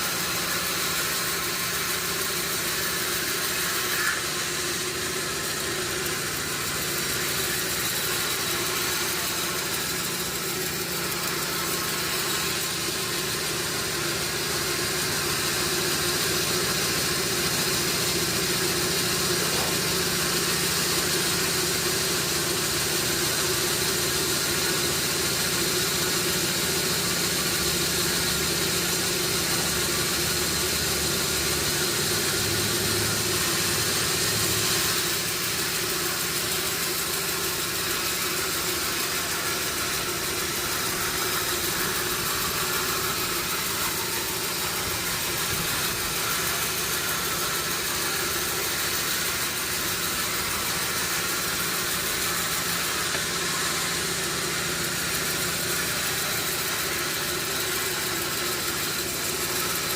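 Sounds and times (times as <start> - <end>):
motor hum: 0.0 - 59.9.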